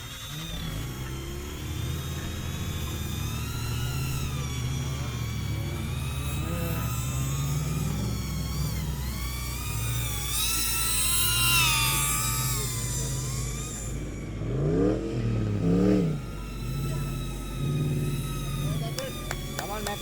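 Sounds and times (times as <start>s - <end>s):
engine revving: 0.0s - 20.0s
faint high whine: 0.0s - 20.0s.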